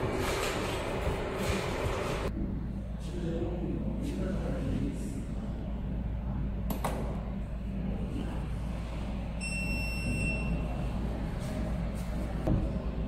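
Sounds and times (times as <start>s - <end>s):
machine low hum: 0.0s - 13.0s.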